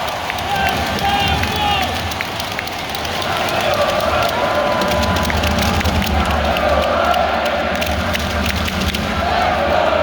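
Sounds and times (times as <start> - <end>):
sharp claps: 0.0 - 9.7
crowd cheering and shouting: 0.0 - 10.0.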